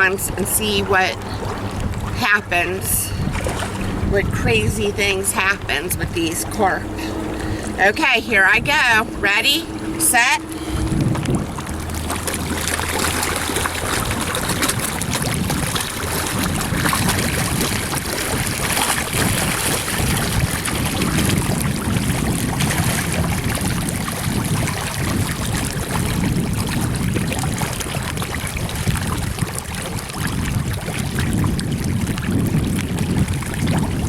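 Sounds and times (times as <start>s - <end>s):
fish splashing in water: 0.0s - 34.0s
wind buffeting microphone: 0.0s - 34.0s.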